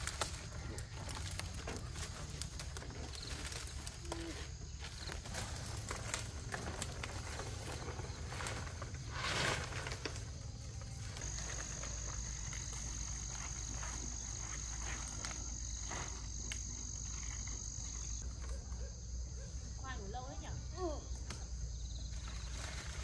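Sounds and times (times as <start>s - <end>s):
insect high-pitched buzz: 0.0s - 23.0s.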